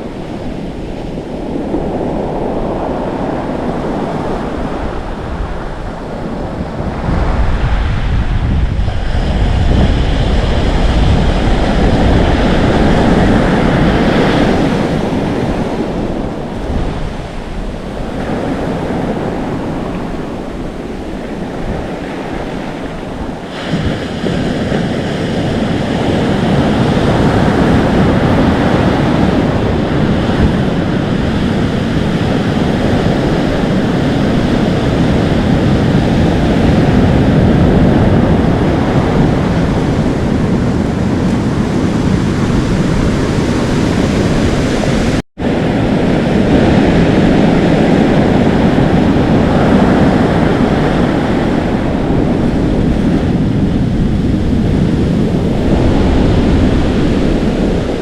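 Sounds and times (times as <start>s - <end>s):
surf breaking and foaming: 0.0s - 58.0s
wind on microphone: 0.0s - 58.0s.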